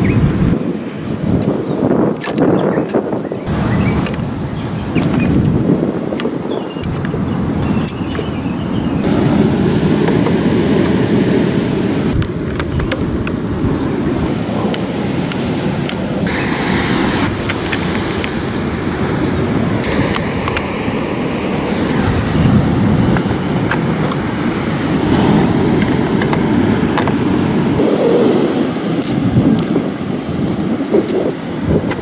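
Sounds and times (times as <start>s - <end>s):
wind rumbling on microphone: 0.0s - 32.0s
surf: 3.4s - 32.0s.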